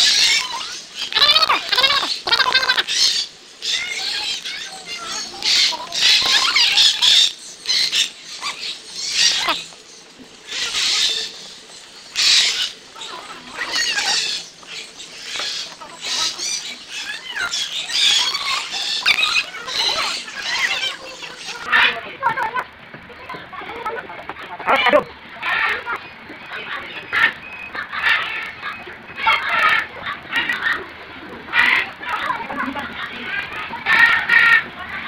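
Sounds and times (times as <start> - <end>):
parrots chirping and squawking: 0.0 - 35.0.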